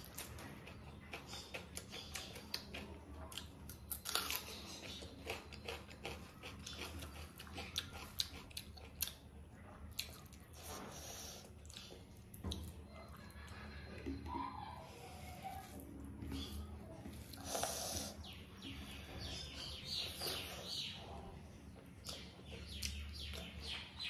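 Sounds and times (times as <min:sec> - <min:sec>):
person chewing food: 0:00.0 - 0:14.7, 0:15.6 - 0:24.0.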